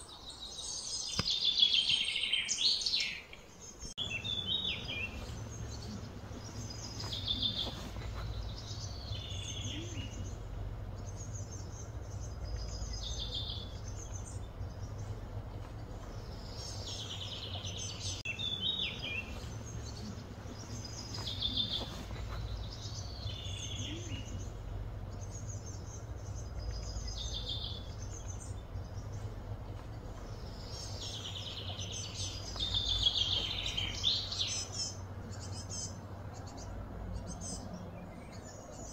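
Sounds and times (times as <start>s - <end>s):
birds chirping: 0.0s - 38.9s
low background rumble: 3.6s - 38.9s.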